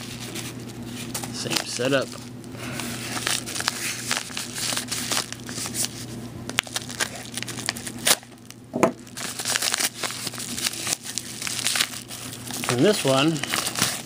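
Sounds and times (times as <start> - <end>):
paper mailer crinkling: 0.0 - 14.0.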